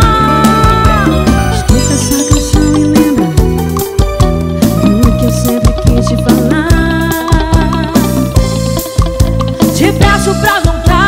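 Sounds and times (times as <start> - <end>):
live band instrumental music: 0.0 - 11.0.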